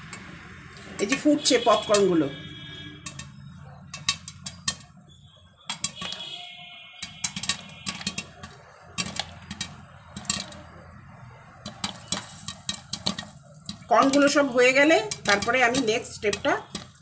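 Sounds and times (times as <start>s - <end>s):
popcorn popping in oil: 0.0s - 17.0s.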